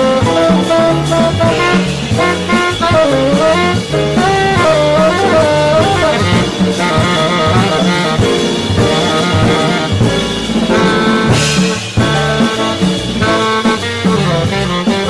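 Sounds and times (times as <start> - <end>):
drum kit cymbals: 0.0 - 15.0
piano: 0.0 - 15.0
saxophone solo: 0.0 - 15.0
upright bass: 0.0 - 15.0.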